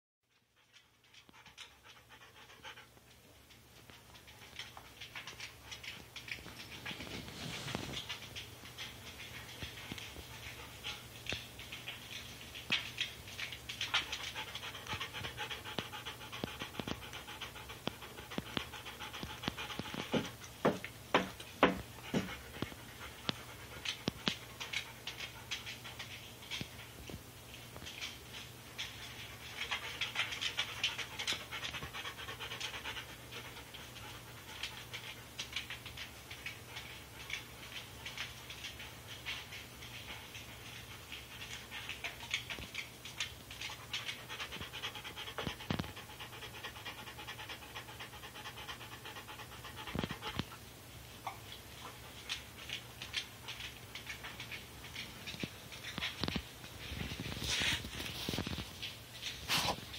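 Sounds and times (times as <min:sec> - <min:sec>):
dog panting: 0:00.4 - 0:27.0, 0:27.8 - 0:59.9.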